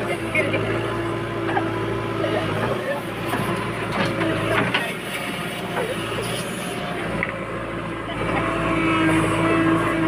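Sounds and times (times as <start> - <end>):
heavy diesel machinery running: 0.0 - 10.0.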